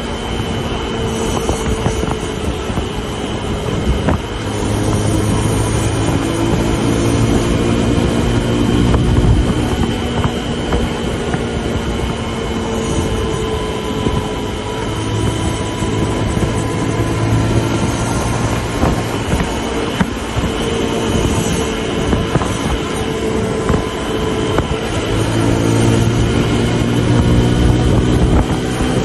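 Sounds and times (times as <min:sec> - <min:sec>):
motorcycle engine running fast: 0:00.0 - 0:29.0
road noise: 0:00.0 - 0:29.0
wind noise: 0:00.0 - 0:29.0.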